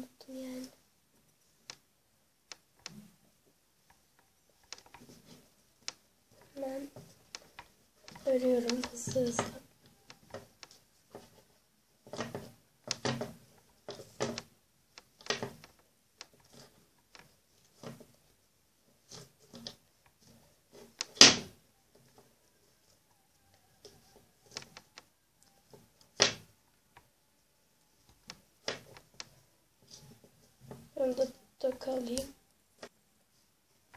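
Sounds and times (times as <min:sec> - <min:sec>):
hair braiding rustles and knocks: 0:00.7 - 0:27.2, 0:27.8 - 0:33.9.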